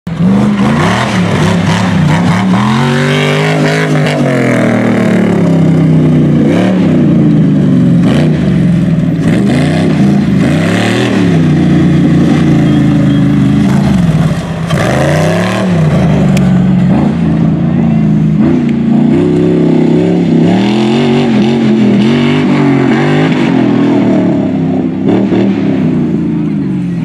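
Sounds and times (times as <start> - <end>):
buggy engine revving: 0.0 - 27.0.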